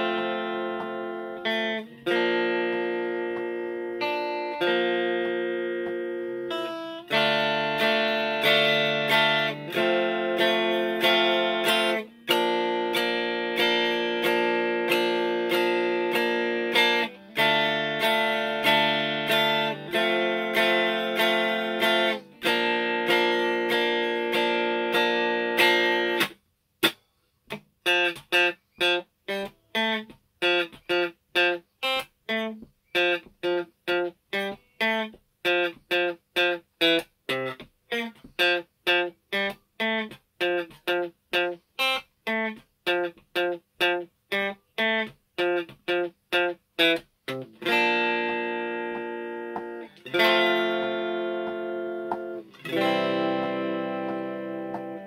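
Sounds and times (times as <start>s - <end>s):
electric guitar strumming chords: 0.0s - 26.4s, 27.8s - 55.0s.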